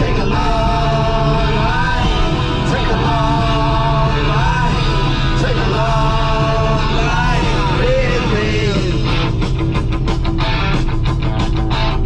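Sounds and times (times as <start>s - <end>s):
rock music with vocals: 0.0s - 12.0s.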